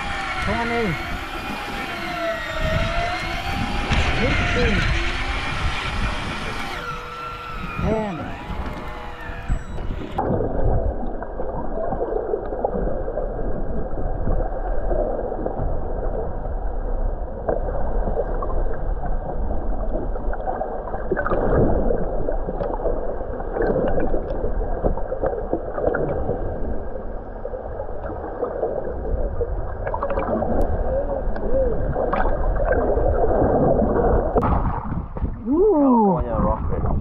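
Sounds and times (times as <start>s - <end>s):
low rumble: 0.0s - 37.0s
water gurgling and sloshing: 0.0s - 37.0s.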